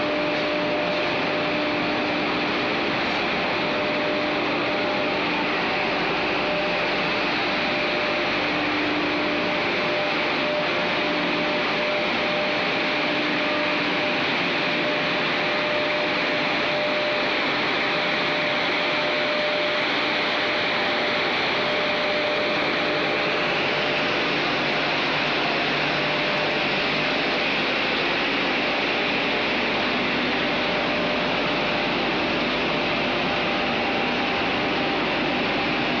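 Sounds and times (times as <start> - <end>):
faint machine hum: 0.0 - 36.0
industrial machinery din: 0.0 - 36.0.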